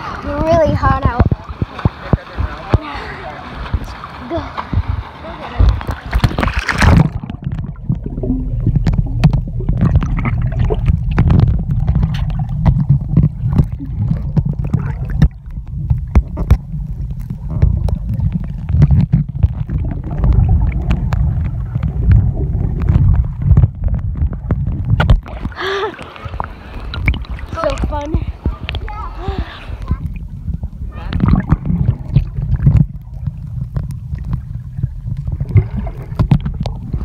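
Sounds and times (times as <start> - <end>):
muffled underwater rumble: 0.0 - 37.0
water splash: 0.0 - 37.0
bubble crackles and clicks: 0.2 - 2.9, 5.6 - 37.0.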